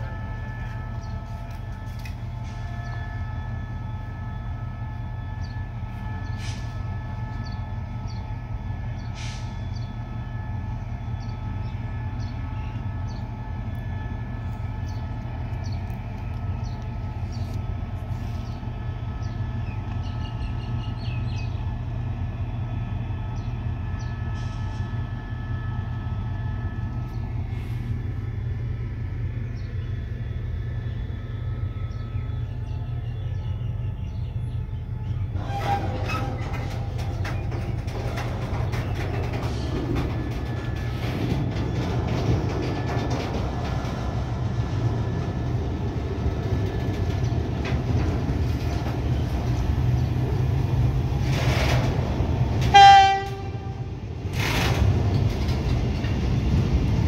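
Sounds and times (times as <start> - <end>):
locomotive engine idling: 0.0 - 57.0.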